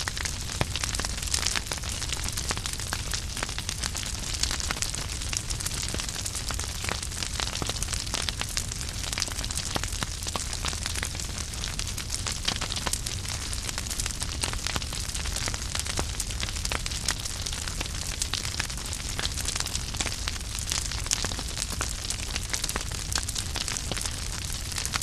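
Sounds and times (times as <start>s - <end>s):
burning logs crackling and popping: 0.0s - 25.0s
fire hissing and rumbling: 0.0s - 25.0s.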